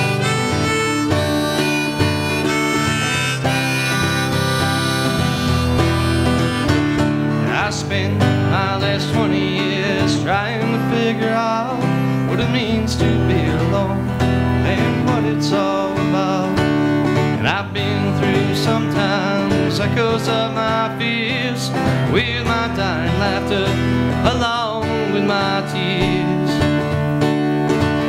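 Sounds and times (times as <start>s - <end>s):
harmonica: 0.0s - 10.7s, 11.3s - 28.0s
acoustic guitar strumming: 0.0s - 28.0s.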